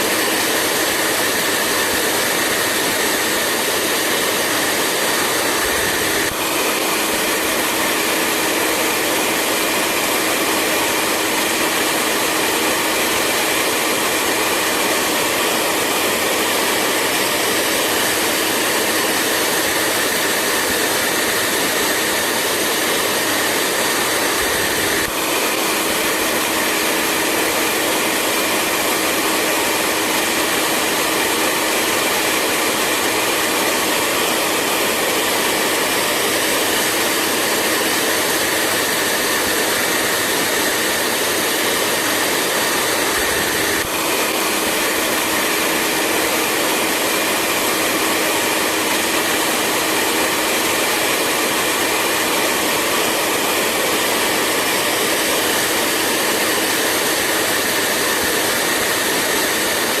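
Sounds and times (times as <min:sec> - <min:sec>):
hair dryer running: 0:00.0 - 1:00.0.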